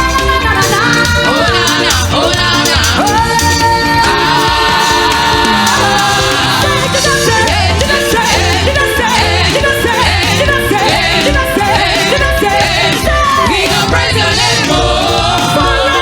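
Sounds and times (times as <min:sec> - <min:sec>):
gospel choir and band: 0:00.0 - 0:16.0.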